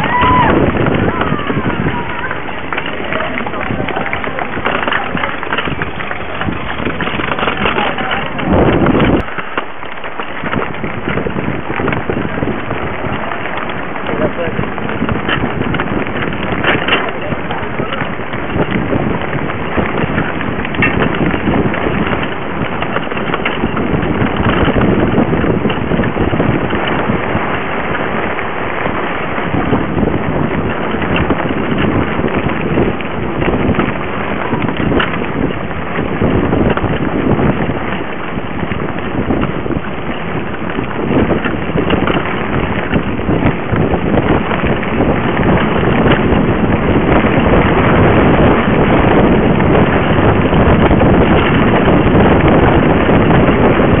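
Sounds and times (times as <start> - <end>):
bike rattling: 0.0 - 54.0
bike tyres rumbling on dirt: 0.0 - 54.0
wind rushing over microphone: 0.0 - 54.0.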